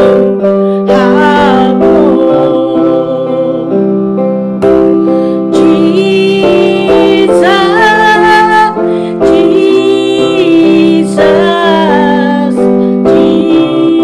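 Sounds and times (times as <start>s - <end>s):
woman singing slow worship song: 0.0s - 4.2s, 5.2s - 14.0s
electronic keyboard chords: 0.0s - 14.0s.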